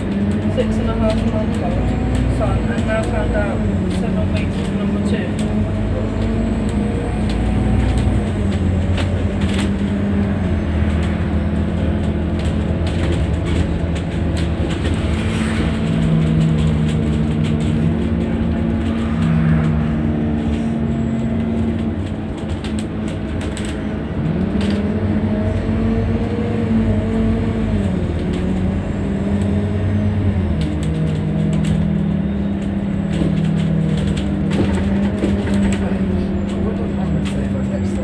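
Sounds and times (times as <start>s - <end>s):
bus diesel engine running: 0.0s - 38.0s
rattles and clicks: 0.0s - 38.0s.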